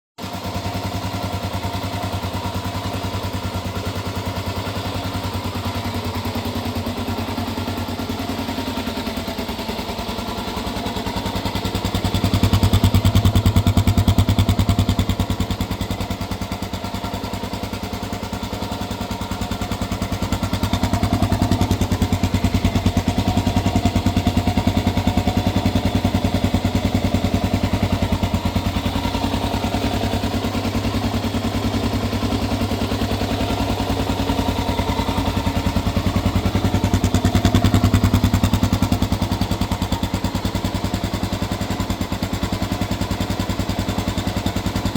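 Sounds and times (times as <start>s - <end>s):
motorcycle engine idling and revving: 0.2s - 44.9s.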